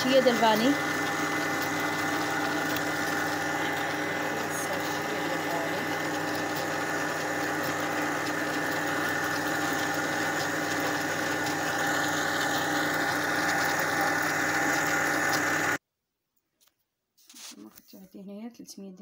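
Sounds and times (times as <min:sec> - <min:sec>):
electric mixer whipping: 0:00.0 - 0:15.8.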